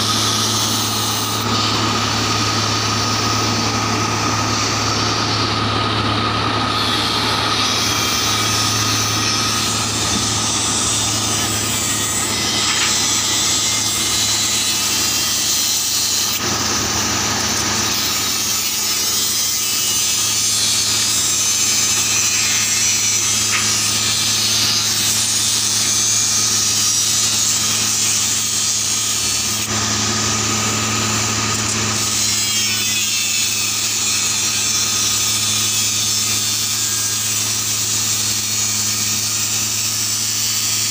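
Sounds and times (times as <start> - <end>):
steady engine hum: 0.0 - 39.6
thin steady whine: 0.0 - 40.7
tamping tools grinding ballast: 0.0 - 40.9.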